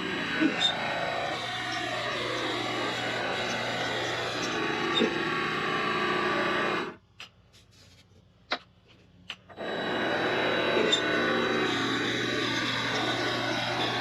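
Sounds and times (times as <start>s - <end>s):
lathe motor whine: 0.0s - 7.0s, 9.5s - 14.0s.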